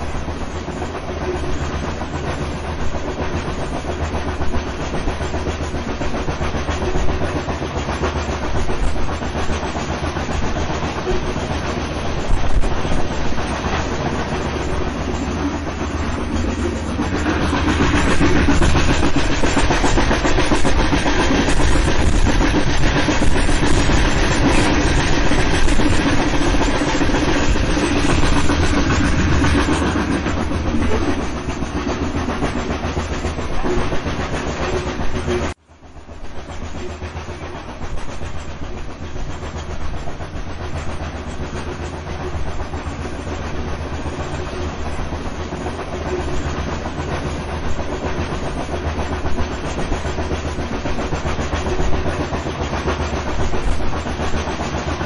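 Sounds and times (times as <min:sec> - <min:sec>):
train rumbling with wheel clatter: 0:00.0 - 0:55.0.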